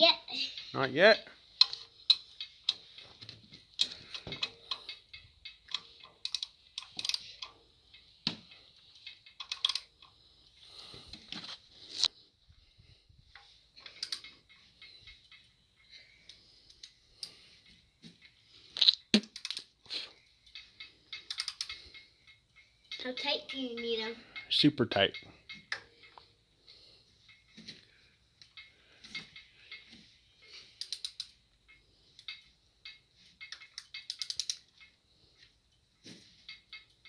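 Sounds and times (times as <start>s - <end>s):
hand ratchet clicking: 1.6s - 12.1s, 13.3s - 35.7s, 36.4s - 37.0s.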